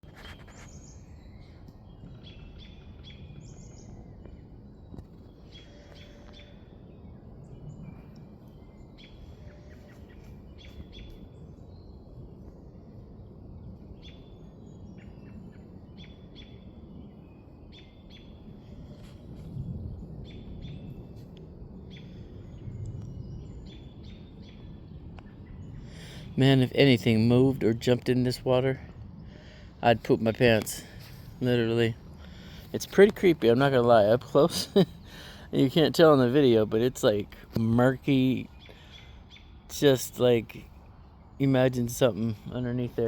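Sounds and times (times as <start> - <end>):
low outdoor rumble: 0.0 - 43.0
small birds chirping: 0.0 - 43.0.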